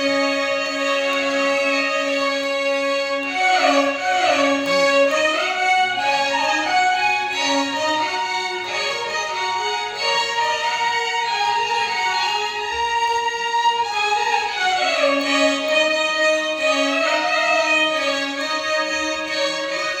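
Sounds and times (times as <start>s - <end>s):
violin orchestra melody: 0.0s - 20.0s.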